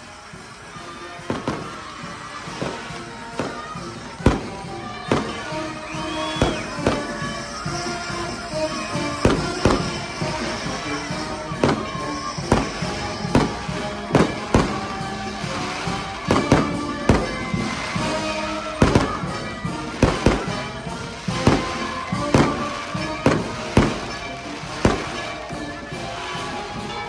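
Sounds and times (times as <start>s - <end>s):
fireworks banging: 0.0s - 27.0s
music with held notes: 0.0s - 27.0s.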